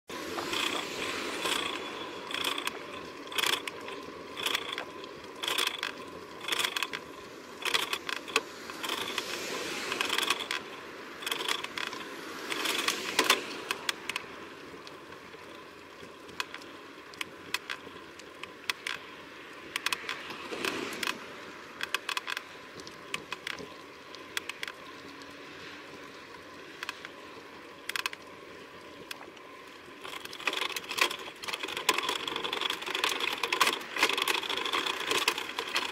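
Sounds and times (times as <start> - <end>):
bicycle rattling and clicking: 0.1 - 35.9
road and wind noise hiss: 0.1 - 35.9.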